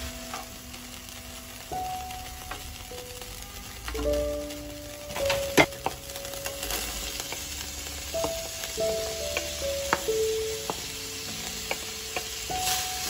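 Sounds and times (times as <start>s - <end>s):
oil sizzling in a pan: 0.0s - 13.0s
soft background music: 0.0s - 13.0s.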